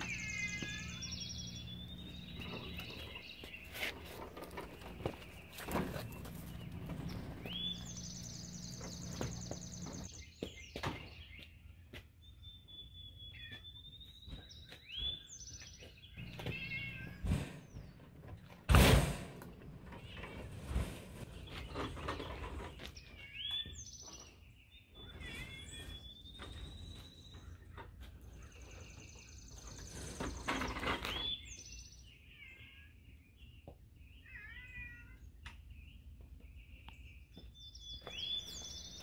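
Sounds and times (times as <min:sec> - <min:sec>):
songbirds singing: 0:00.0 - 0:18.7, 0:19.5 - 0:39.0.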